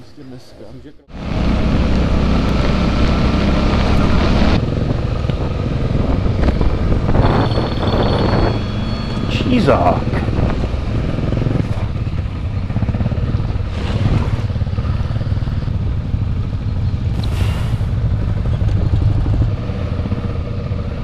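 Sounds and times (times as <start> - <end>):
motorcycle engine running: 1.1 - 21.0
wind noise on microphone: 1.6 - 19.9.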